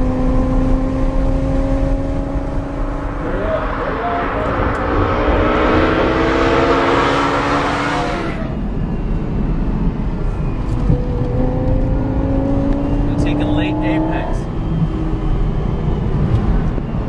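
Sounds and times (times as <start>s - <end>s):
car engine accelerating past: 0.0s - 8.8s, 10.4s - 17.0s
car engine from inside cabin: 0.0s - 17.0s.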